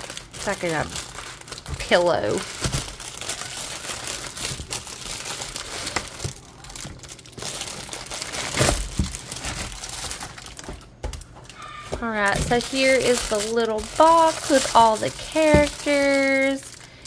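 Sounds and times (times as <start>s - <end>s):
bubble wrap and cellophane crinkling: 0.0s - 17.0s.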